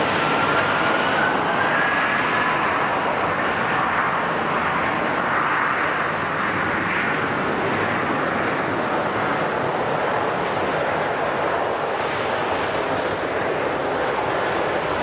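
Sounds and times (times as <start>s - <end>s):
faint jet engine whine: 0.0s - 15.0s
jet engines rushing: 0.0s - 15.0s.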